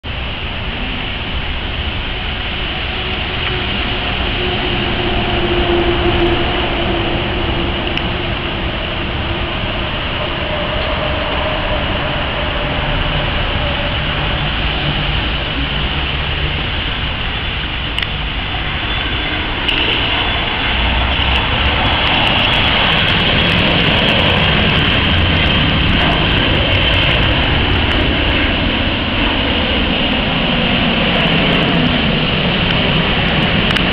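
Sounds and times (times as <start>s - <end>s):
jet engines at takeoff power: 0.0s - 33.9s.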